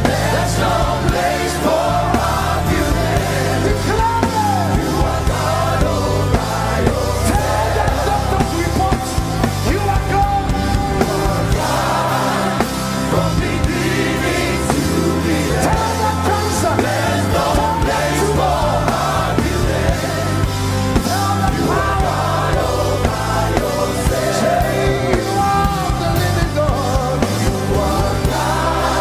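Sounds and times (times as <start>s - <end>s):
gospel band playing: 0.0s - 29.0s
sustained bass notes: 0.0s - 29.0s.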